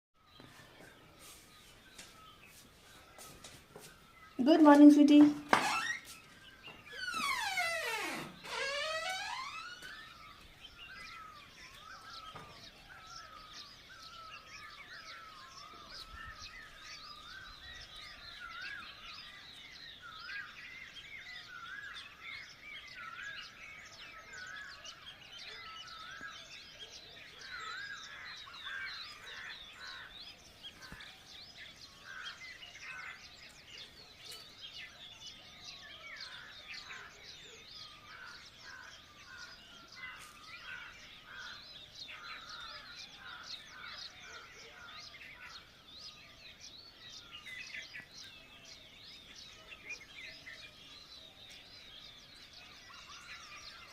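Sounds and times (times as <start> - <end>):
small birds chirping and warbling: 0.2 - 53.9.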